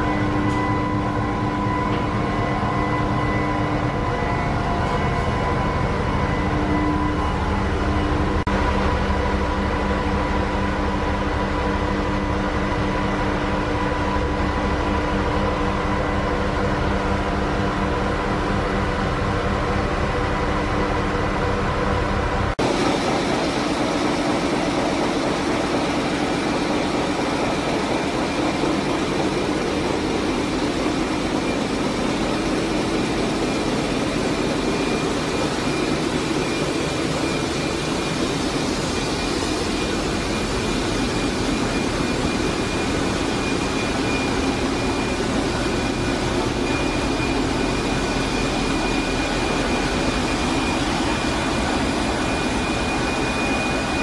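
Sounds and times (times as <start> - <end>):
engine room machinery rumble: 0.0 - 54.0.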